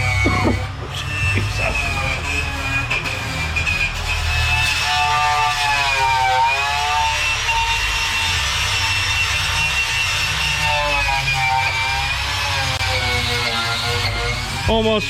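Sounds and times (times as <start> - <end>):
power tool whining on steel: 0.0 - 14.7.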